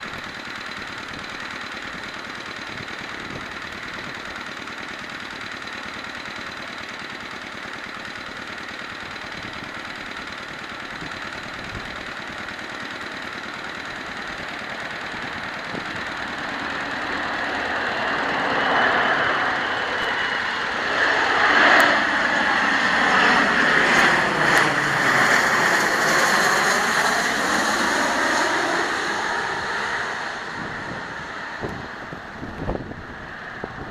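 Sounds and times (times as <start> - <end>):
jet engines passing: 0.0 - 33.9.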